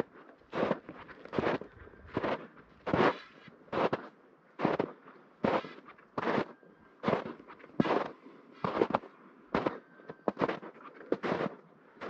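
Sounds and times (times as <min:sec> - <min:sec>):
footsteps crunching in snow: 0:00.5 - 0:11.6.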